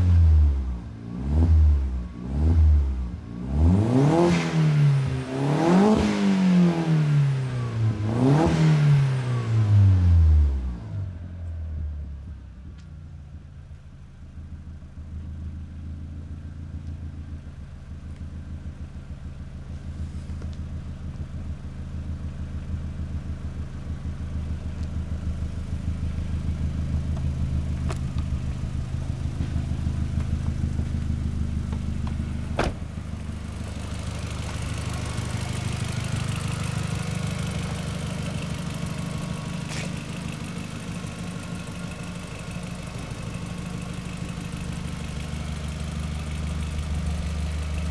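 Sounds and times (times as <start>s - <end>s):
car engine running at low revs: 0.0s - 47.9s.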